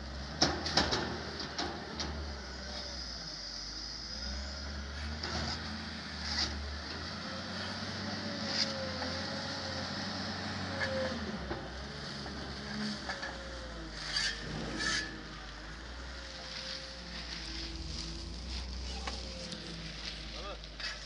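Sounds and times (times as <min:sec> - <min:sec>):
heavy vehicle engine humming: 0:00.0 - 0:21.0.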